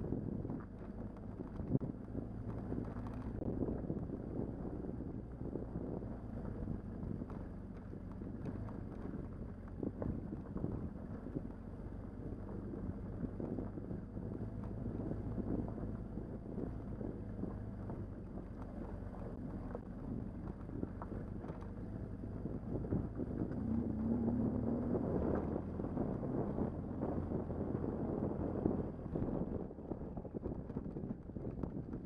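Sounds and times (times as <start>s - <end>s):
motorcycle engine running: 0.0s - 32.0s
wind on microphone: 0.0s - 32.0s.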